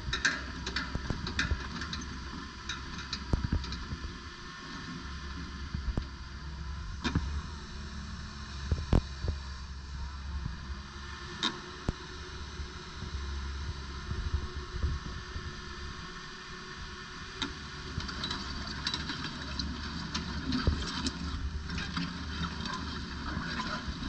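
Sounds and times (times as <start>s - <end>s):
excavator diesel engine rumbling: 0.0s - 24.0s.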